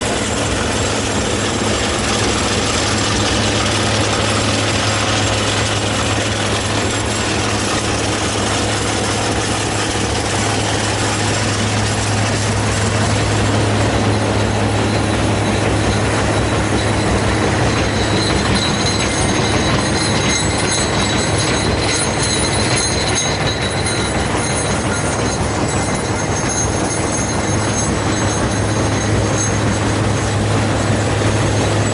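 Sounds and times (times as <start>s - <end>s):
crusher machinery droning: 0.0s - 31.9s
high metallic rattle: 0.0s - 31.9s
thin whine: 0.0s - 31.9s.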